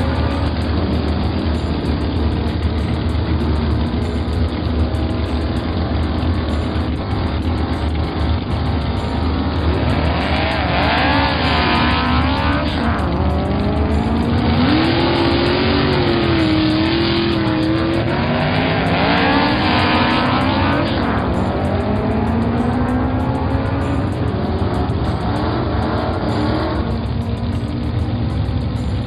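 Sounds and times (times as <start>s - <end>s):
racing car engines revving: 0.0s - 29.0s
steady rushing noise: 0.0s - 29.0s.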